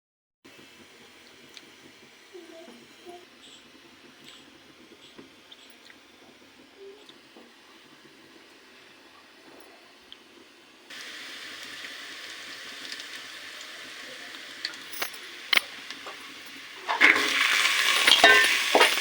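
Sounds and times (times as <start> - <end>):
oil sizzling in a pan: 0.5 - 19.0.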